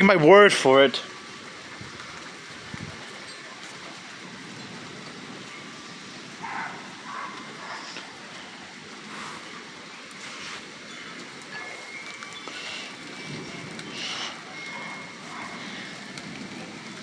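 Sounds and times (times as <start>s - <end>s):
heavy rain hiss: 0.0s - 17.0s.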